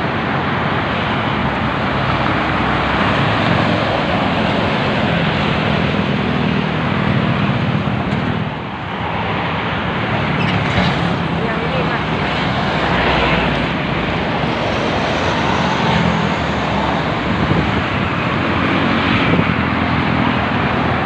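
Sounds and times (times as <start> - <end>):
fast traffic roar: 0.0 - 21.0
deep engine drone: 1.4 - 21.0.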